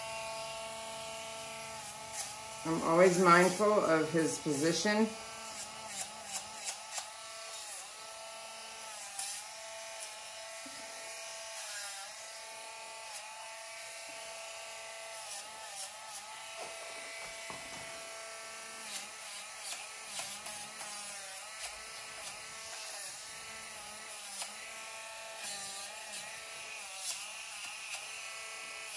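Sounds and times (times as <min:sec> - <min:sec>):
pet nail grinder whining: 0:00.0 - 0:28.9.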